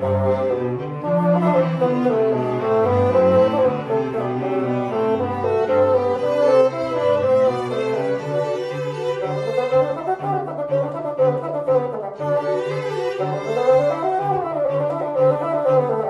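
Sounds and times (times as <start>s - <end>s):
classical chamber ensemble playing: 0.0s - 16.0s.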